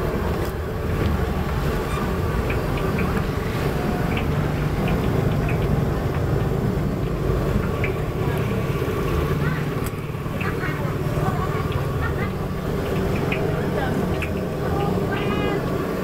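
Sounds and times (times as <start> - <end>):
deep-frying oil sizzling: 0.0 - 16.0
gas burner roar: 0.0 - 16.0.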